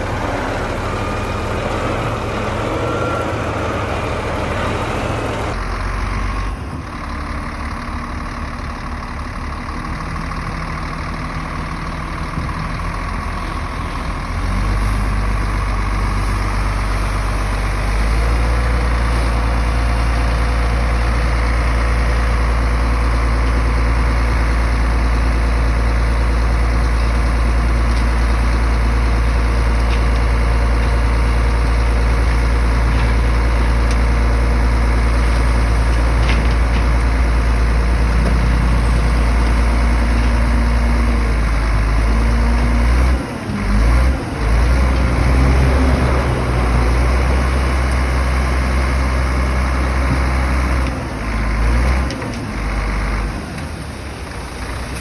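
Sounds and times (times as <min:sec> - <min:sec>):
diesel engine of heavy machine: 0:00.0 - 0:55.0.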